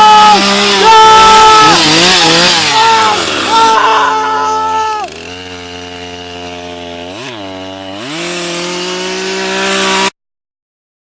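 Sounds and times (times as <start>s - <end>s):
chainsaw engine revving: 0.0s - 10.2s.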